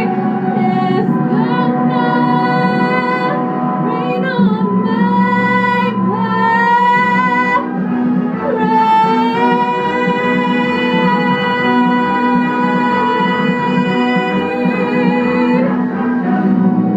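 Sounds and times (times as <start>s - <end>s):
woman singing show tune: 0.0s - 7.8s, 8.4s - 16.3s.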